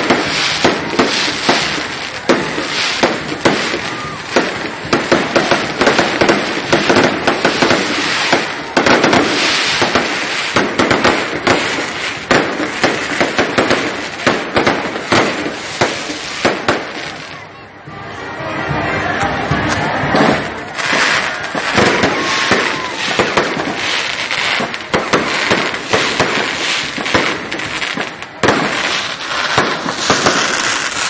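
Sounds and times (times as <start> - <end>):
firecracker pops crackling: 0.0 - 17.4, 19.6 - 31.0.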